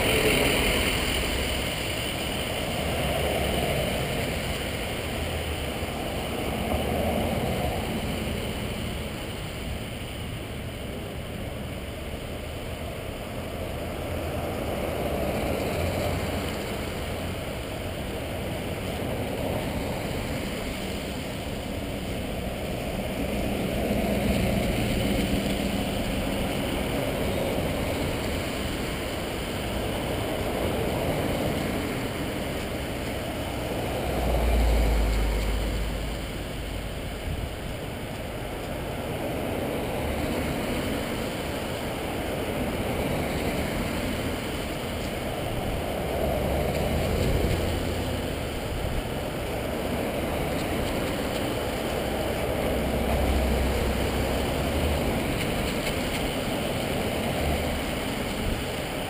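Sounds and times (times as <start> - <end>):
vehicles passing by: 0.0 - 59.0.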